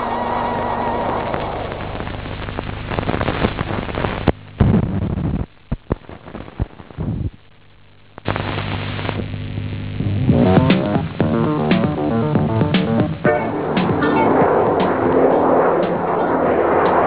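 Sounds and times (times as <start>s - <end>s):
film soundtrack hiss: 0.0s - 17.0s
low mains hum: 0.0s - 17.0s.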